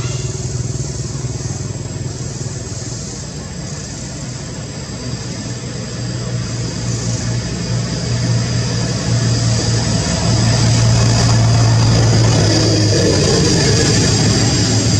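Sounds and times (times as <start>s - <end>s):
low engine drone: 0.0s - 14.9s
steady high hiss: 0.0s - 14.9s.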